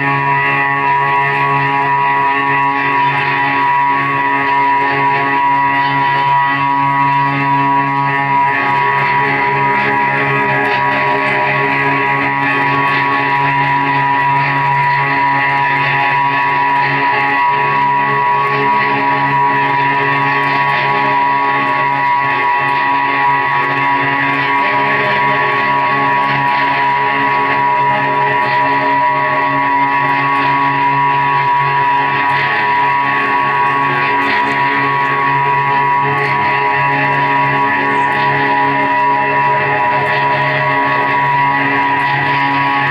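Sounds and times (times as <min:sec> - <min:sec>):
droning held guitar tones: 0:00.0 - 0:42.9.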